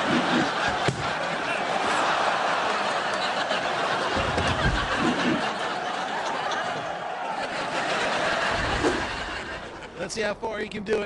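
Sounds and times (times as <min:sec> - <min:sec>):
crowd din: 0:00.0 - 0:10.0
audience laughing: 0:00.0 - 0:10.1.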